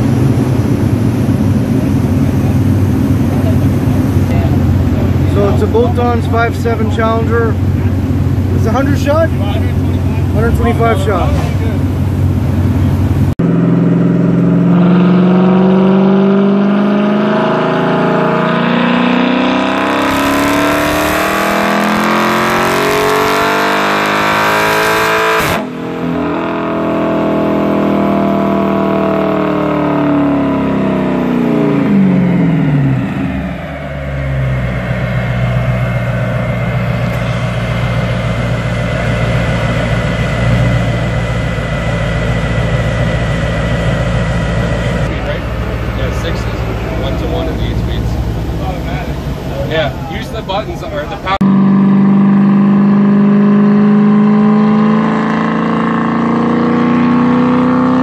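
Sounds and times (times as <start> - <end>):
car engine idling: 0.0 - 56.5
car engine revving at full throttle: 0.0 - 58.0.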